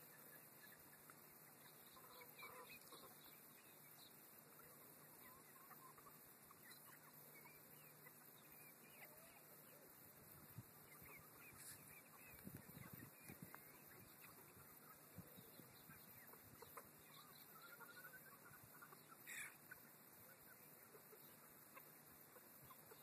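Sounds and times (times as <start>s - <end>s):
chicks clucking and chirping: 0.0s - 9.7s, 10.4s - 23.0s.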